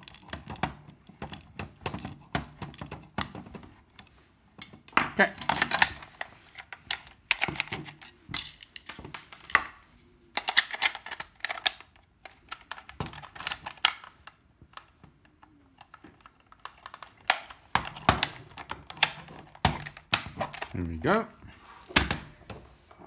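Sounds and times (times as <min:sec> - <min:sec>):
plastic parts clicking and clacking: 0:00.0 - 0:09.5, 0:10.3 - 0:23.0.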